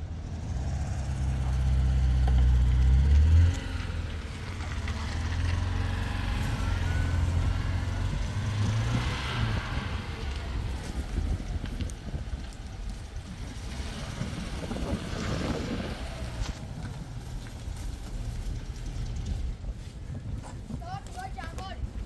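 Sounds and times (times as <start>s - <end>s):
car engine humming: 0.0s - 20.4s.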